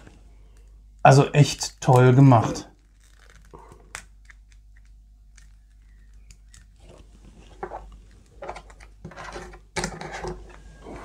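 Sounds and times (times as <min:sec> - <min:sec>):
plastic scraping and rustling: 0:01.8 - 0:11.0.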